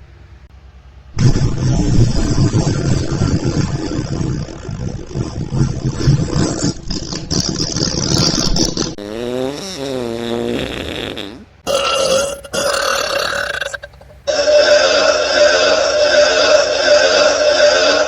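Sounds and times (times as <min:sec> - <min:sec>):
comic burps: 0:01.2 - 0:18.0.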